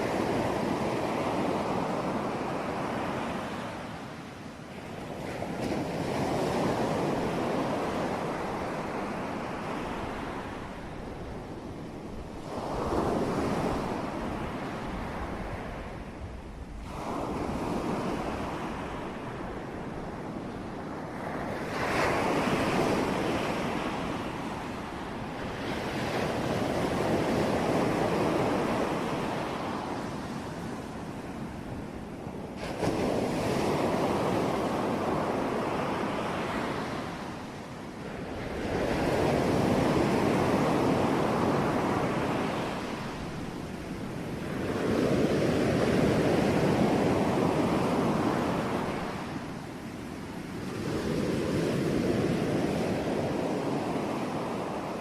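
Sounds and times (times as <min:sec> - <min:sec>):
ocean waves crashing: 0:00.0 - 0:16.1, 0:16.8 - 0:55.0.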